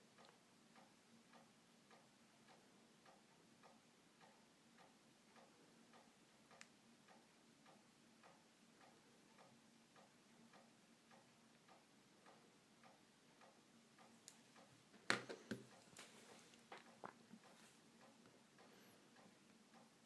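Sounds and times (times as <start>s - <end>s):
faint steady ticking: 0.0s - 20.0s.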